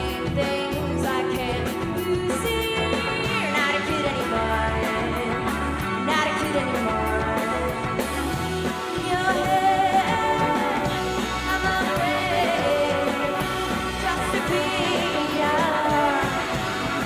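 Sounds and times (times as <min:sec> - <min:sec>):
indie pop band playing: 0:00.0 - 0:17.0
person singing lead vocal: 0:00.0 - 0:17.0.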